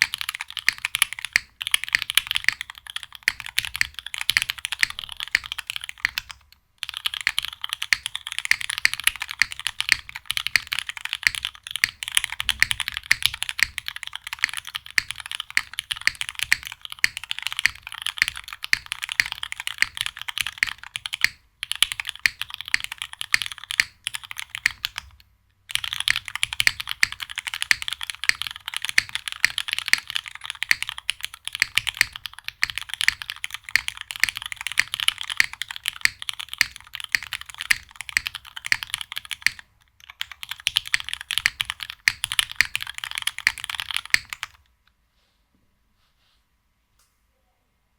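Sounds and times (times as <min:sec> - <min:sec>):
mechanical keyboard typing: 0:00.0 - 0:44.7.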